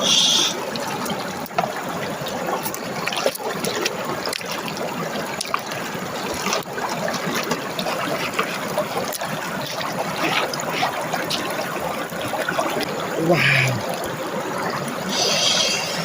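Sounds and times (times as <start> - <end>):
stream water trickling: 0.0 - 16.0.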